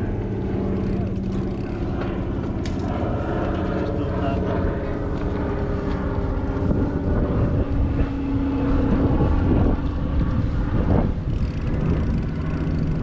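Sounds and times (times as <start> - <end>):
steady low drone: 0.0 - 13.0
wind rumbling on microphone: 0.0 - 13.0.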